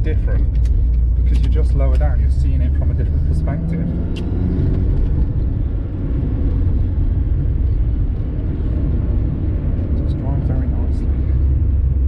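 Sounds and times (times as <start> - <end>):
car engine and road noise in cabin: 0.0 - 12.0.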